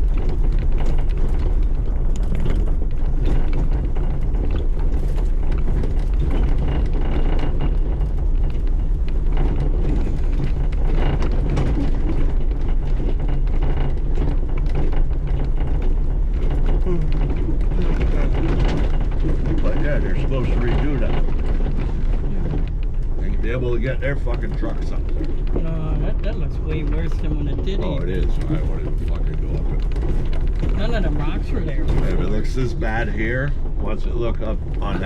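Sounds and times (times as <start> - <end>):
off-road vehicle engine running: 0.0 - 35.0
vehicle body rattles and knocks: 0.0 - 35.0.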